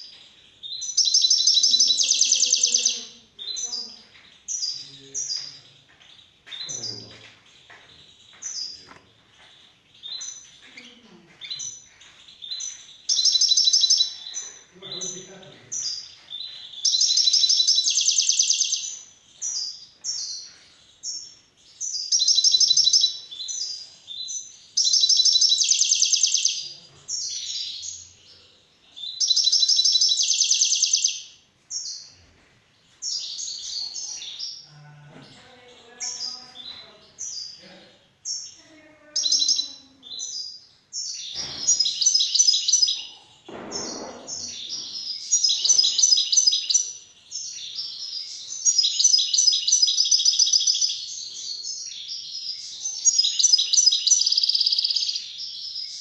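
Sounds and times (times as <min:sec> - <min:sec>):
goldfinch twittering song: 0:00.0 - 0:28.2, 0:29.0 - 0:32.1, 0:39.2 - 0:56.0.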